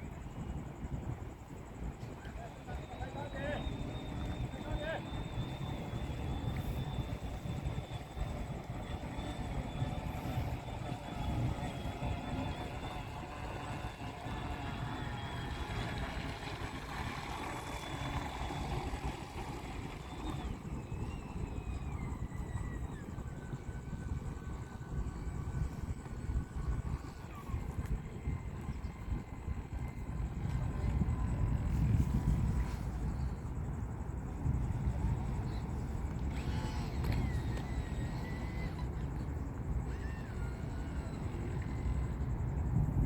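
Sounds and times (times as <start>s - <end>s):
model boat electric drive whining: 0.0s - 43.0s.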